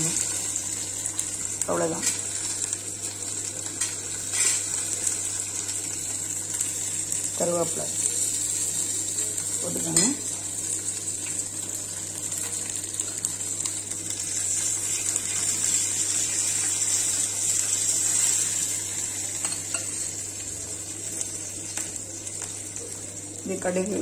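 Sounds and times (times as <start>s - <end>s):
spices sizzling in hot oil: 0.0s - 24.0s.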